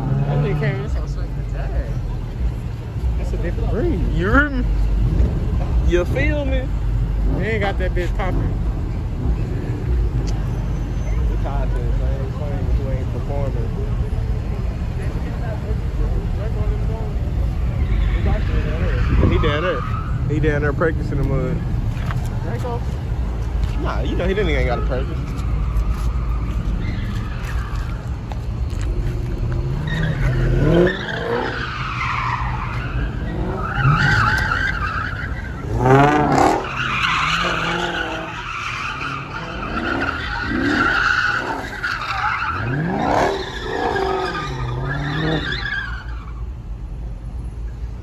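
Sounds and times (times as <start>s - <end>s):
car engine revving: 0.0s - 46.4s
tires skidding on pavement: 0.0s - 47.8s.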